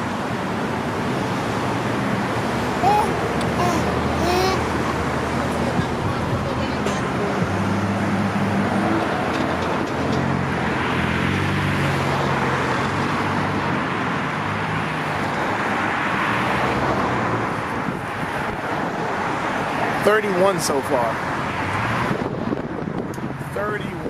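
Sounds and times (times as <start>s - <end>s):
cars driving past: 0.0s - 23.5s.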